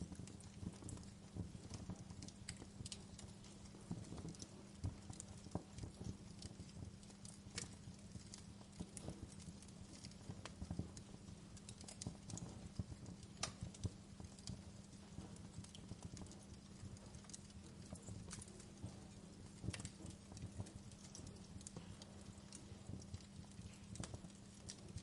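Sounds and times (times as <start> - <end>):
low steady hum: 0.0 - 25.0
wood fire crackling: 0.0 - 25.0.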